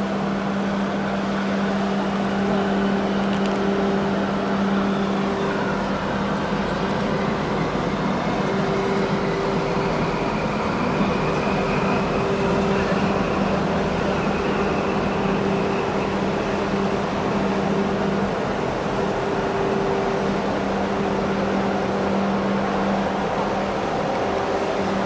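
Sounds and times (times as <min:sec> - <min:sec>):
mechanical drone: 0:00.0 - 0:25.0.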